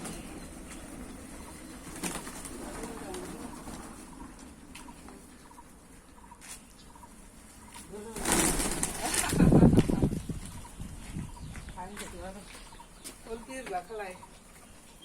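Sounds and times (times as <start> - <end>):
birds giving soft calls: 0.0 - 15.0.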